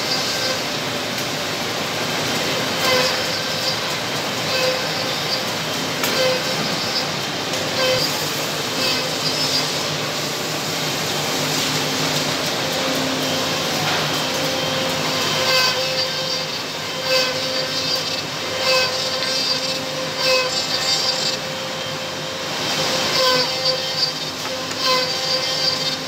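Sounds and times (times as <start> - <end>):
cutters whining on wood: 0.0 - 26.0
machine motors running: 0.0 - 26.0.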